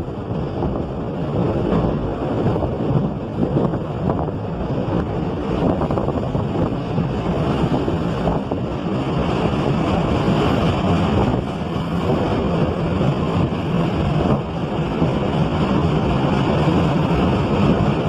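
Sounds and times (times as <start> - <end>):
vehicle rumble on road: 0.0 - 18.0
wind buffeting microphone: 0.0 - 18.0.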